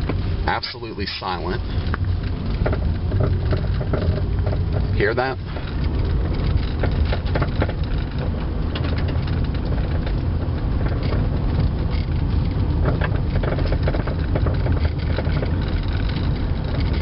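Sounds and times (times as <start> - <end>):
car driving on gravel: 0.0 - 17.0
suspension grinding noise: 0.0 - 17.0.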